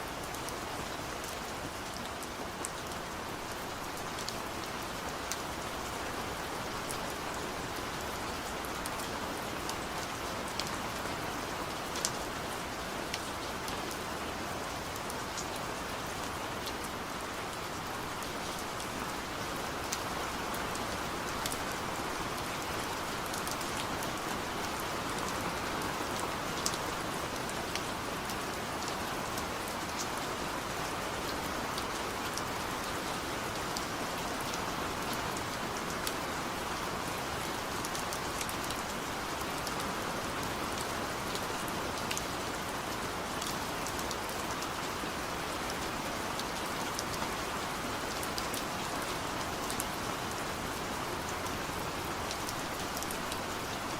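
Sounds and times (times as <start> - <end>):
steady rain pattering: 0.0 - 53.9.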